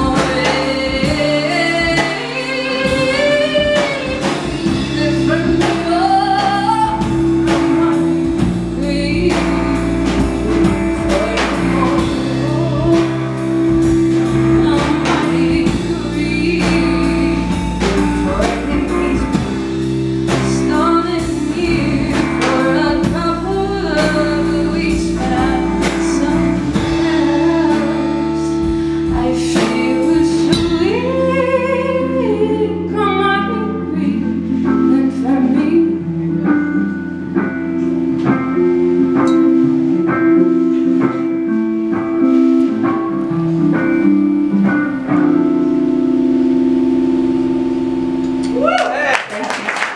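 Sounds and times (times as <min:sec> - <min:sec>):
woman singing: 0:00.0 - 0:42.2
bass: 0:00.0 - 0:49.9
drum kit: 0:00.0 - 0:49.9
guitar: 0:00.0 - 0:49.9.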